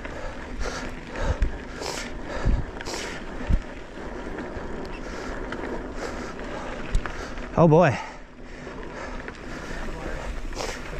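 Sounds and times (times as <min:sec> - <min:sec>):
bike riding over dirt trail: 0:00.0 - 0:10.9.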